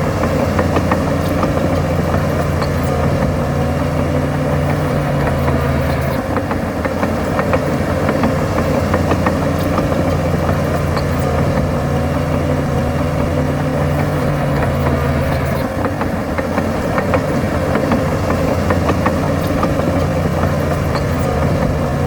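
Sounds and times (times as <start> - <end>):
heavy machine diesel engine running: 0.0 - 22.0.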